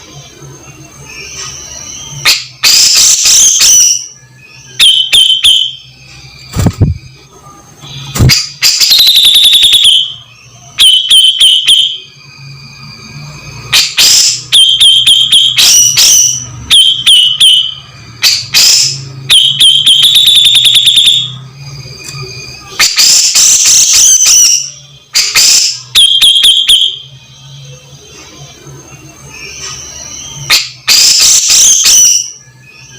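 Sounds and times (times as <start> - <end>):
bulbul chattering song: 0.0 - 32.9.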